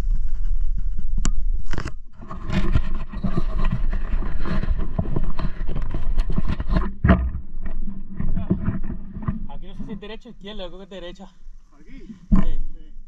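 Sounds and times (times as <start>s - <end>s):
rustling crackling and scraping: 0.0s - 12.8s.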